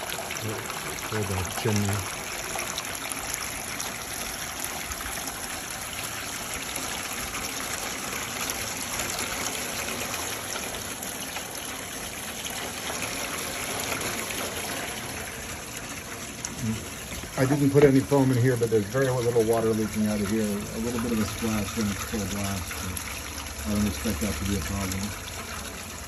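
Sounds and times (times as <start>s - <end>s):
water splashing into metal gutter: 0.0s - 26.0s.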